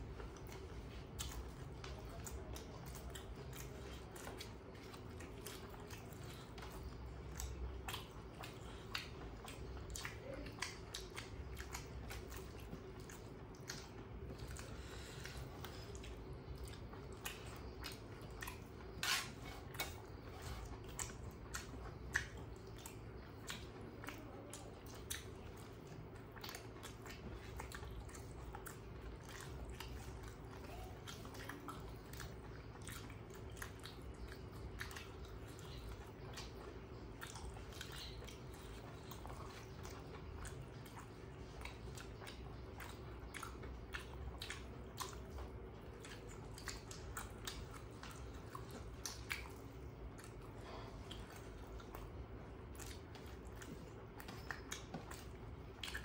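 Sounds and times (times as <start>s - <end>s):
chewing: 0.0s - 56.0s
faint steady hum: 0.0s - 56.0s
fingers squishing rice and curry: 0.0s - 56.0s.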